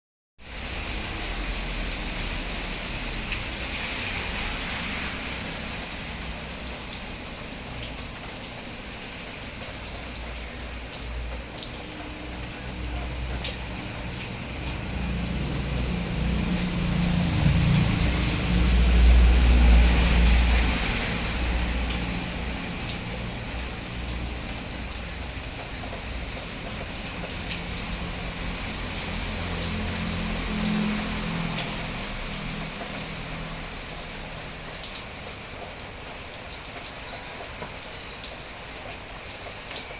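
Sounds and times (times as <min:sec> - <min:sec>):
steady rain hiss: 0:00.4 - 0:39.9.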